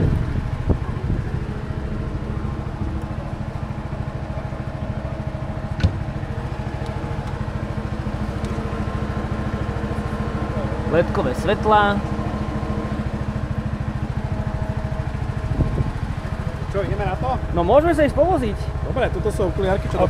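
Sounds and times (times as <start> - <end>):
quad bike engine idling: 0.0 - 20.0.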